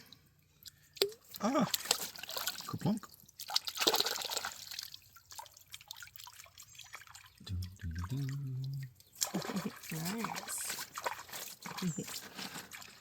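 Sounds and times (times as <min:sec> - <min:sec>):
creek water splashing: 0:00.0 - 0:13.0.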